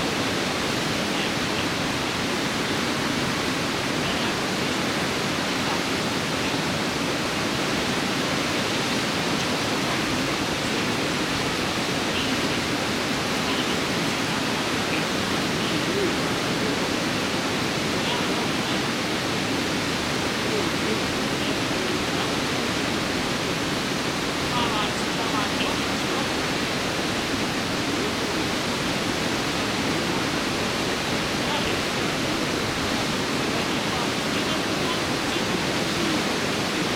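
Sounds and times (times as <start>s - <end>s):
water rushing over weir: 0.0s - 36.9s.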